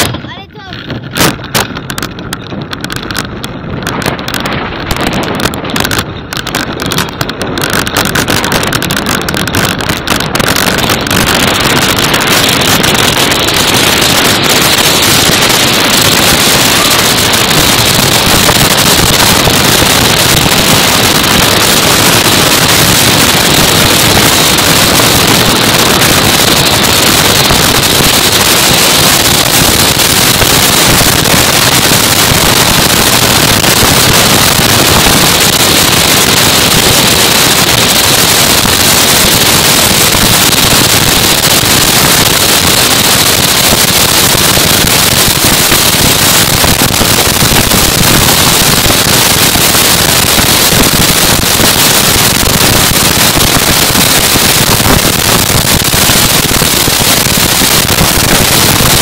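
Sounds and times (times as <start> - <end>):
crackling rattle: 0.0 - 59.0
wind rush and rolling noise: 0.0 - 59.0.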